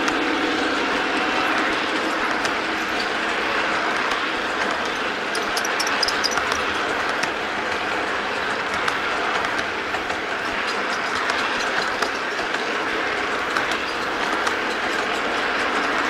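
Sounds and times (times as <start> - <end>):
irregular track clicks: 0.0 - 16.0
model train wheels rumbling on track: 0.0 - 16.0.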